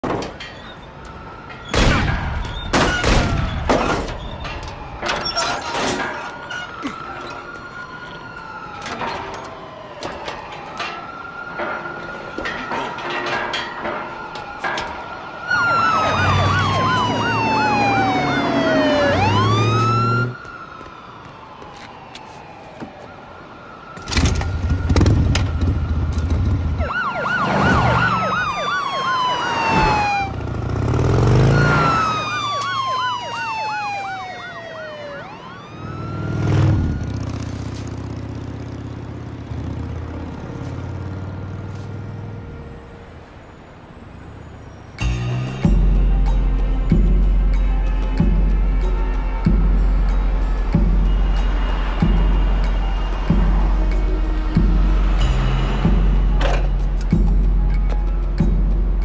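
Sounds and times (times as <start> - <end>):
siren-like wailing tones: 0.6 - 40.8, 47.8 - 56.8.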